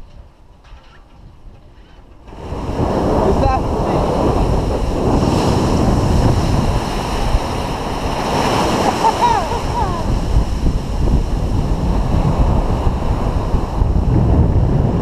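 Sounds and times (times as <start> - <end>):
wind rumbling on microphone: 0.0 - 15.0
surf washing and breaking: 2.2 - 15.0.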